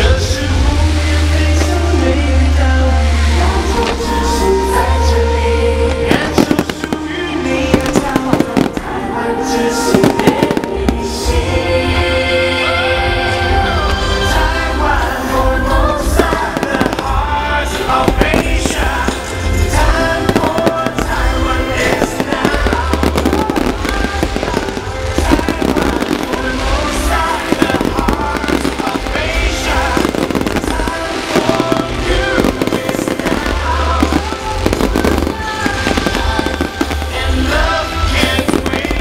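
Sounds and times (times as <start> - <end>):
fireworks bursting: 0.0 - 39.0
loud music: 0.0 - 39.0.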